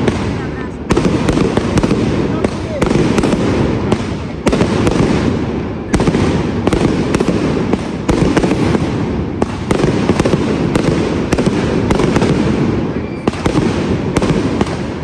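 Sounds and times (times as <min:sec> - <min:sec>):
firework fountains hissing: 0:00.0 - 0:15.0.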